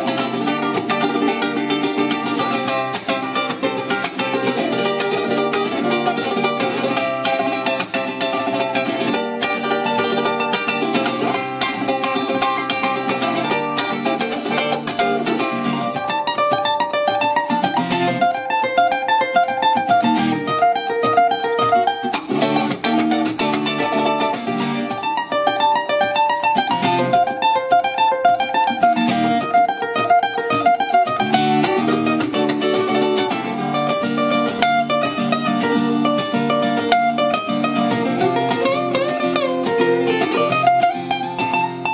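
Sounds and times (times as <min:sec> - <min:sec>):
acoustic guitar and ukulele strumming: 0:00.0 - 0:41.9
fast picked lead melody: 0:00.0 - 0:41.9.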